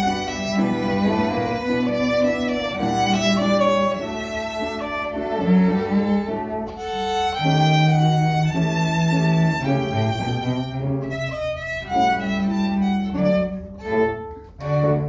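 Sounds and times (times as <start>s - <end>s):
string ensemble playing tango: 0.0s - 15.0s.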